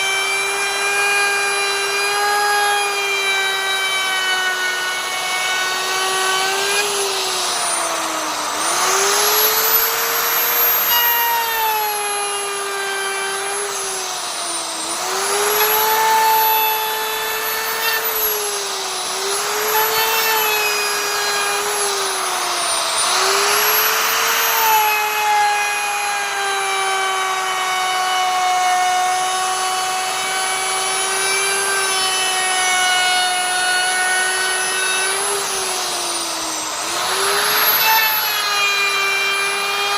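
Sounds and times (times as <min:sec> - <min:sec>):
router bit cutting wood hiss: 0:00.0 - 0:39.9
wood router whining: 0:00.0 - 0:39.9.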